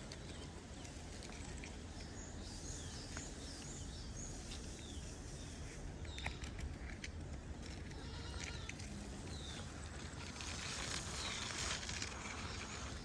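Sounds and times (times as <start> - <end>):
small bird chirping: 0.0 - 6.6, 8.0 - 13.0
faint outdoor rumble: 0.0 - 13.0.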